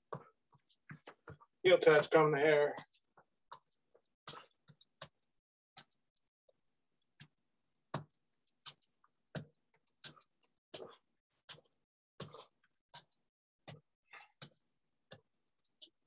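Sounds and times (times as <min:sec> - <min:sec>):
footsteps taps and soft thumps: 0:00.0 - 0:05.2, 0:07.2 - 0:15.3.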